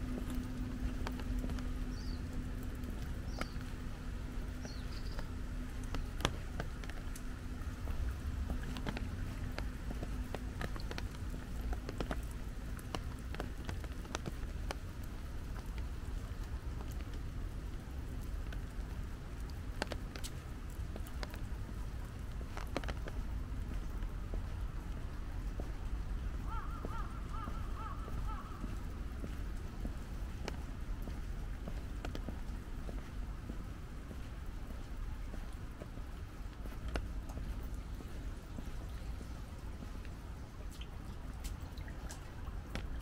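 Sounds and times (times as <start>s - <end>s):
faint steady hum: 0.0s - 43.0s
light rain pattering: 0.0s - 43.0s
steady low rumble: 0.0s - 43.0s.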